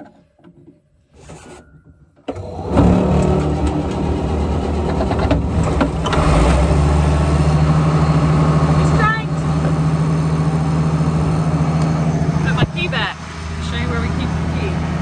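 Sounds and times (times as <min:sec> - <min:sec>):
tractor engine running: 0:02.3 - 0:15.0.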